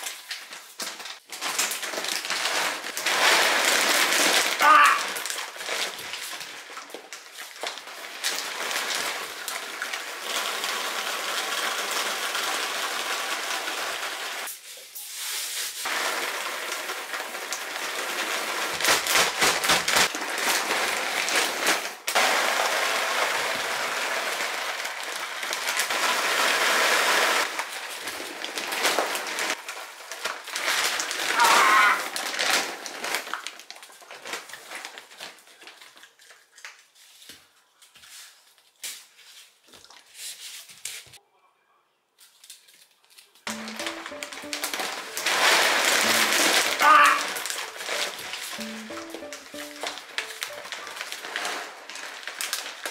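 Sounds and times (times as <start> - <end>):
plastic bags crinkling: 0.0 - 14.5, 15.8 - 37.0, 42.3 - 52.9.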